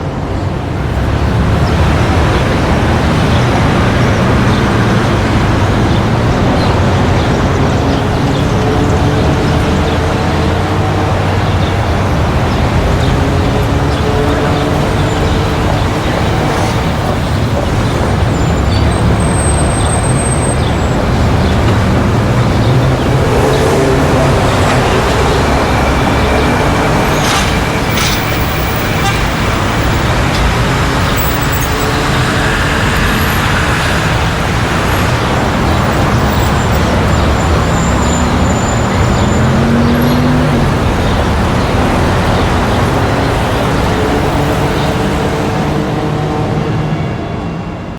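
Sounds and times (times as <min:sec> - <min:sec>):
traffic passing: 0:00.0 - 0:47.9.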